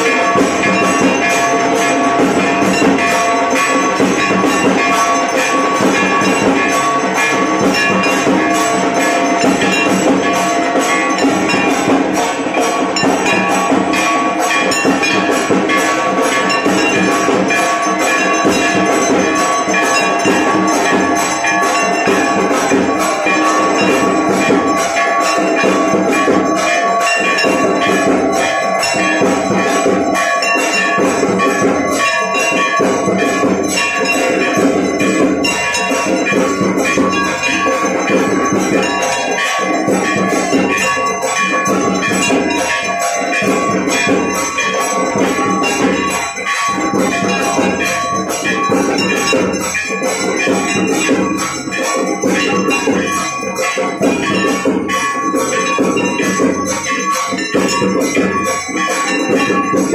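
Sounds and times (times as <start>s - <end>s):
temple bells ringing rapidly: 0.0s - 59.9s.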